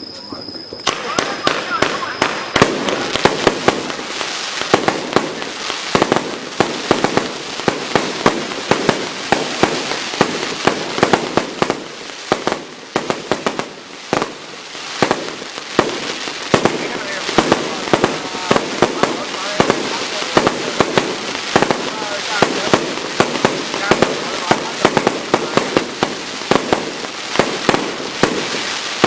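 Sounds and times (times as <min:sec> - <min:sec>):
fireworks crackling hiss: 0:00.0 - 0:29.0
fireworks shots and bursts: 0:00.0 - 0:29.0.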